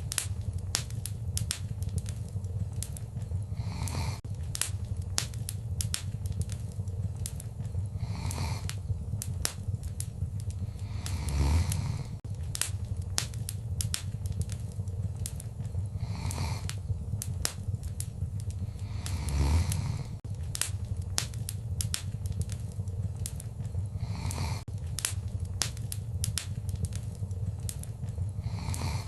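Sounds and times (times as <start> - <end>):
soft whoosh of fire: 0.0 - 29.0
wood fire crackling: 0.0 - 29.0.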